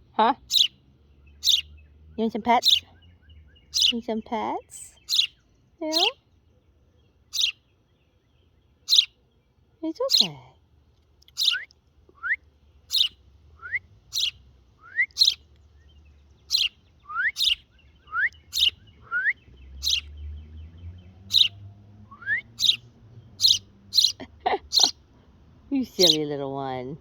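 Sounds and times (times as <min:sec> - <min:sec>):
small bird chirping: 0:00.4 - 0:10.4, 0:11.2 - 0:25.1, 0:25.8 - 0:26.4.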